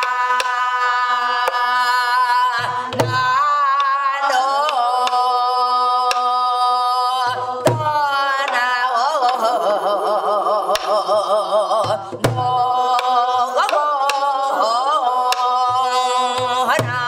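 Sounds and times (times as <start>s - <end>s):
woman singing wavering notes: 0.0s - 17.0s.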